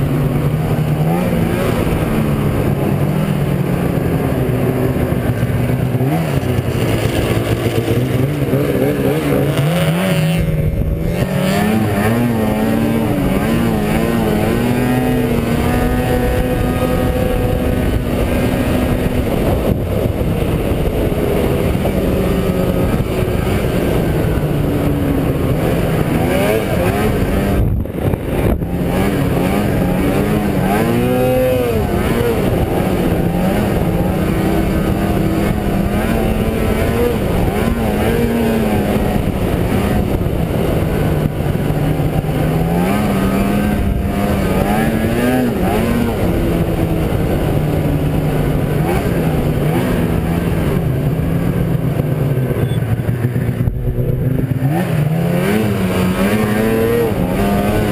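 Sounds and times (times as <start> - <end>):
snowmobile engine running: 0.0 - 57.9.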